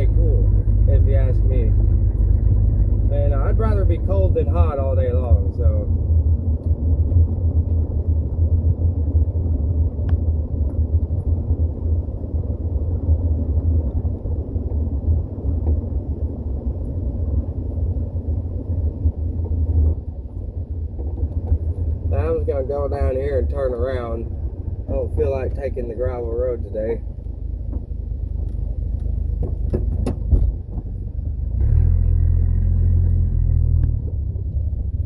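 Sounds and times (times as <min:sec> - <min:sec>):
car engine rumble: 0:00.0 - 0:35.0
road noise: 0:00.0 - 0:35.0.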